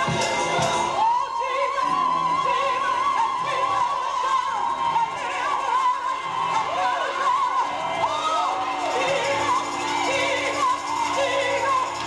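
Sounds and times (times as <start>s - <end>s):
musical backing: 0.0s - 12.0s
person singing gospel: 0.0s - 12.0s.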